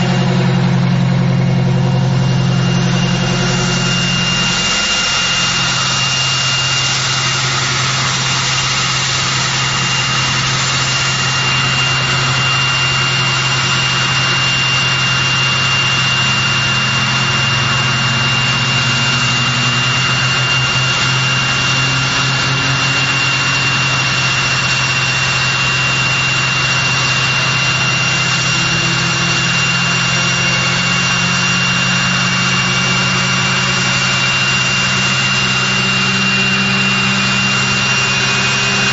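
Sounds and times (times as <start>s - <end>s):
high whine: 0.0s - 38.9s
low rising tone: 0.0s - 38.9s
turboprop engines running: 0.0s - 38.9s.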